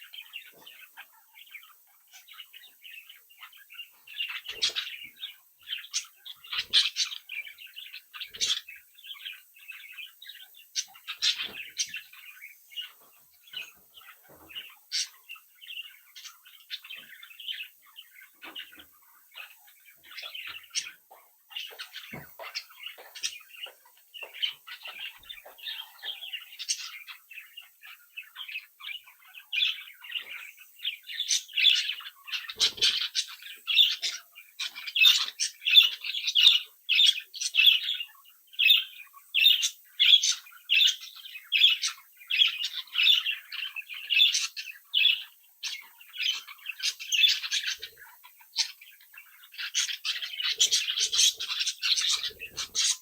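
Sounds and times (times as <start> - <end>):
budgerigars chirping and warbling: 0.0 - 53.0.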